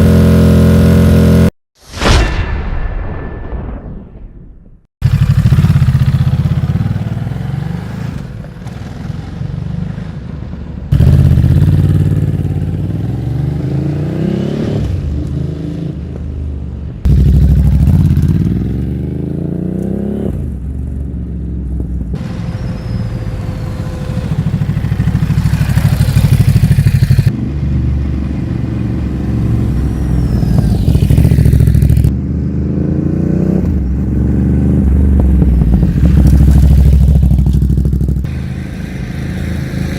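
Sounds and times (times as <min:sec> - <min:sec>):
motorcycle engine revving: 0:00.0 - 0:01.5, 0:05.0 - 0:16.0, 0:17.1 - 0:39.9.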